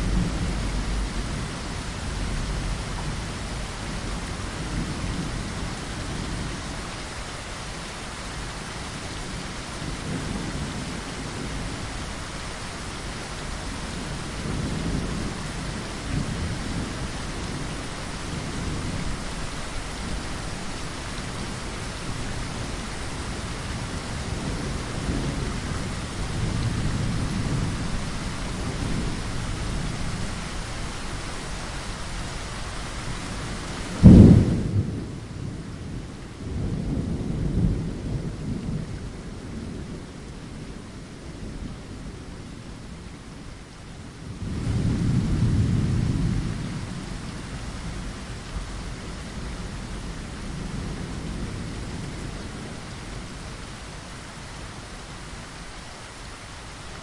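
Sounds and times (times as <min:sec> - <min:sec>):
rumbles of thunder: 0:00.0 - 0:06.8, 0:09.7 - 0:12.1, 0:13.6 - 0:31.0, 0:33.1 - 0:42.6, 0:43.2 - 0:54.1
rain against a window: 0:00.0 - 0:57.0.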